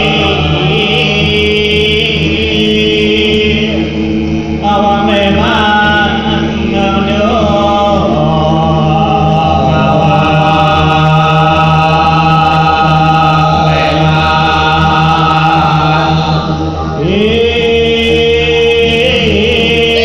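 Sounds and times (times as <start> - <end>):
steady low drone: 0.0 - 20.0
voices chanting long notes: 0.0 - 20.0.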